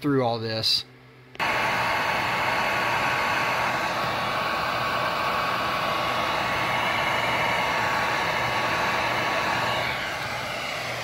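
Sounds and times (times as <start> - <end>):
heat gun blowing: 1.4 - 11.0.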